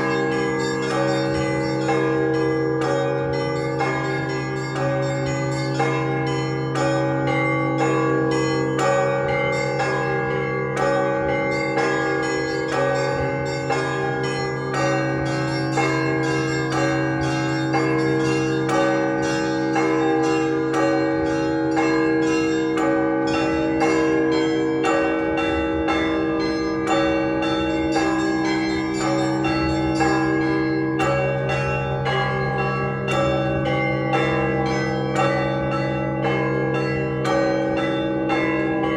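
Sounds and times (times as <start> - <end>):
large bells humming: 0.0 - 38.9
small church bells ringing rapidly: 0.0 - 38.9.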